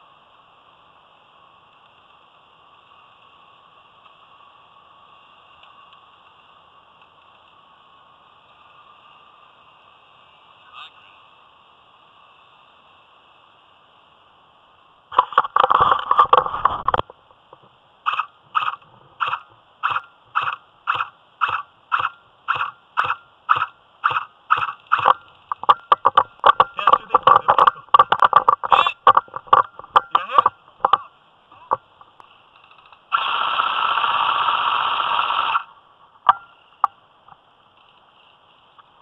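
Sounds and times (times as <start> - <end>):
rustling undergrowth: 0.0 - 39.0.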